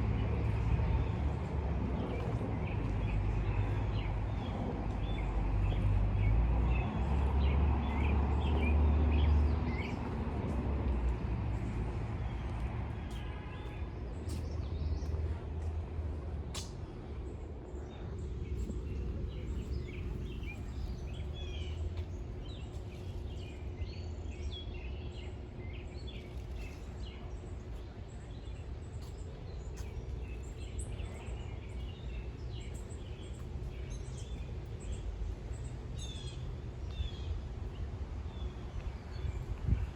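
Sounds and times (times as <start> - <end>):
low steady rumble: 0.0 - 39.9.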